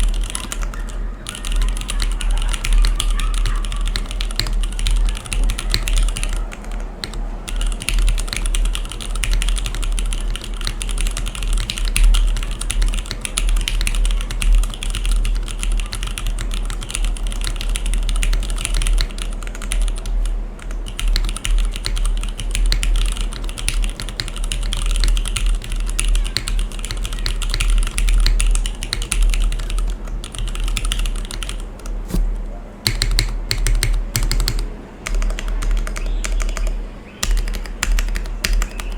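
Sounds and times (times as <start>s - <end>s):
fast typing on mechanical keyboard: 0.0s - 32.2s, 32.8s - 38.9s.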